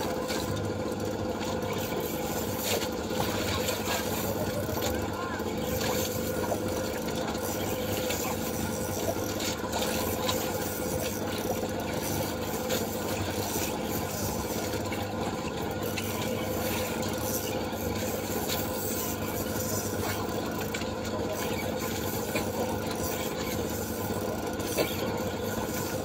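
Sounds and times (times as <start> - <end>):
fishing reel whirring: 0.0 - 26.0.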